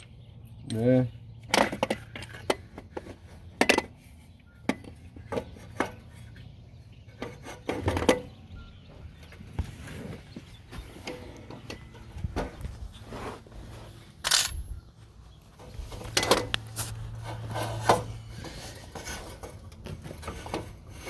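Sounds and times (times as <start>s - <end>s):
hand tools and metal parts clinking: 0.0s - 10.2s, 10.8s - 13.0s, 14.1s - 14.9s, 15.5s - 21.0s.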